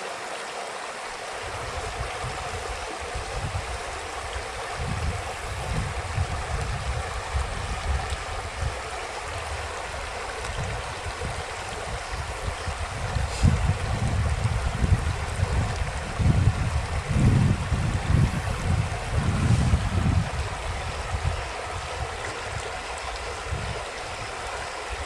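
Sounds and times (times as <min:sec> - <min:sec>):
stream water flowing over rocks: 0:00.0 - 0:25.0.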